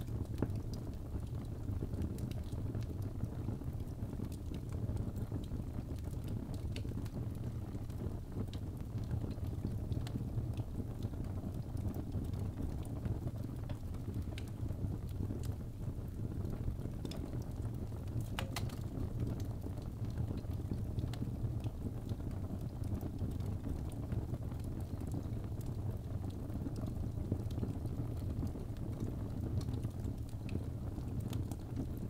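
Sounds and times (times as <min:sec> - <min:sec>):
fire crackling and popping: 0:00.0 - 0:32.0
low rush of flames: 0:00.0 - 0:32.0.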